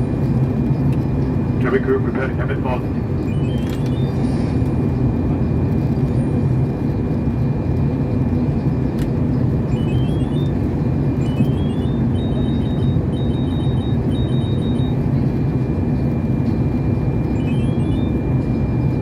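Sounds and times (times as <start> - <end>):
airliner cabin engine noise: 0.0 - 19.0.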